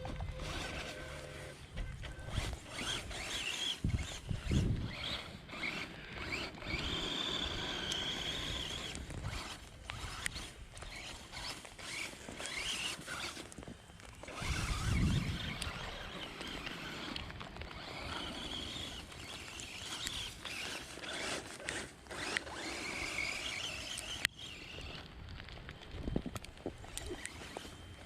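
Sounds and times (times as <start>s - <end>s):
toy truck motor whining: 0.0s - 25.1s, 25.8s - 28.0s.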